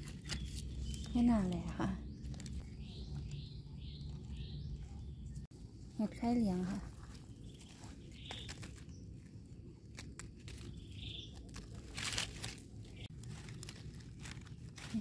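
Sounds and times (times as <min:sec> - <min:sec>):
dry leaves rustling and crackling: 0:00.0 - 0:04.7, 0:05.6 - 0:15.0.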